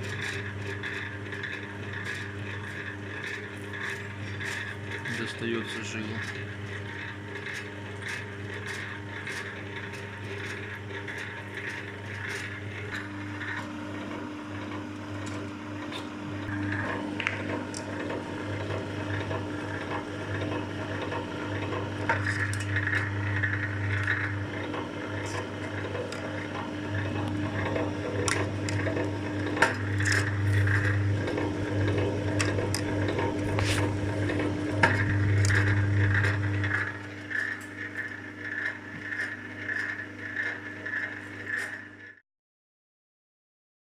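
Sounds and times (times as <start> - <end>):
cable stripping machine humming: 0.0 - 42.2
clicks and scraping: 0.0 - 42.2.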